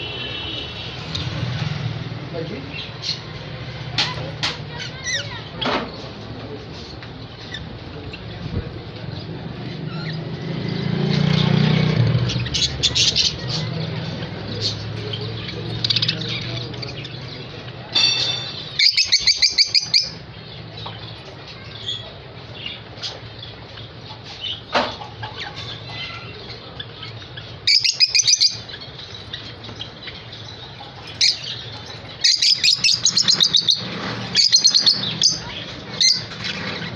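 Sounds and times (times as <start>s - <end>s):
lovebirds chirping: 2.5s - 36.9s.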